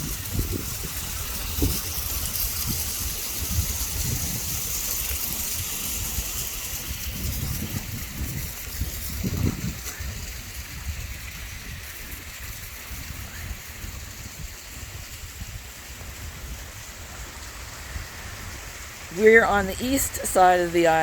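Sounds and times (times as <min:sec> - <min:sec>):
heavy rain hissing: 0:00.0 - 0:12.2, 0:13.0 - 0:21.0
wind buffeting microphone: 0:00.0 - 0:21.0.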